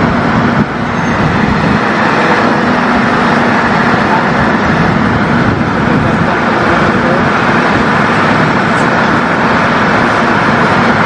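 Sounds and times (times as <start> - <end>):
engines and road traffic rumble: 0.0 - 11.0.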